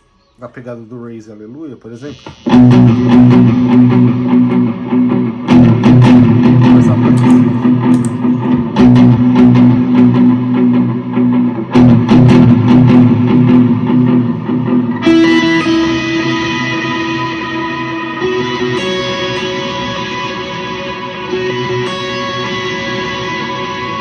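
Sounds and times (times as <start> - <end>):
electric guitar chords ringing: 1.9 - 24.0.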